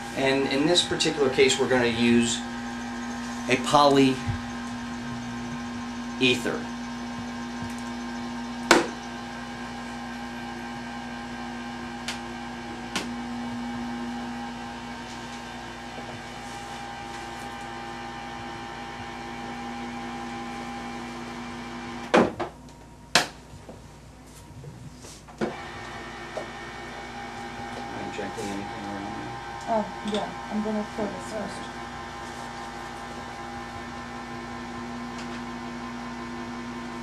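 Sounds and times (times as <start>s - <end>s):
mixing unit motor hum: 0.0s - 37.0s.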